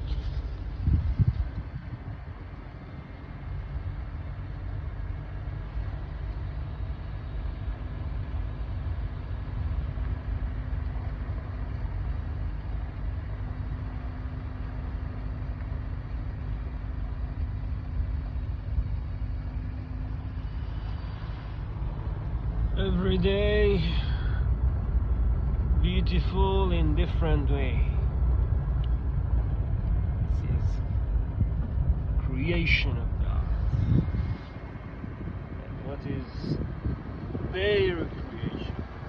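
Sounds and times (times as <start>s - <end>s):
car road and engine rumble: 0.0s - 39.0s
faint steady hum: 0.0s - 39.0s.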